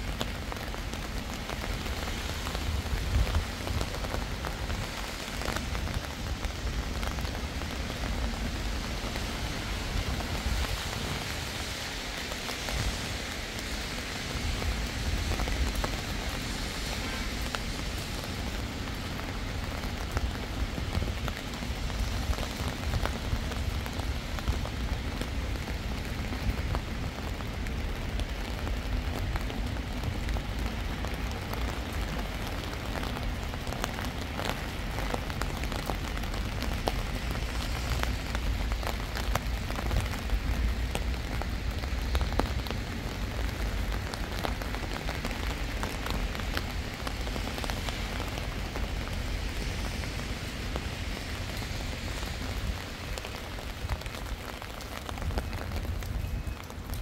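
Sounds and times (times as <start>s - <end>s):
rain drops ticking: 0.0s - 57.0s.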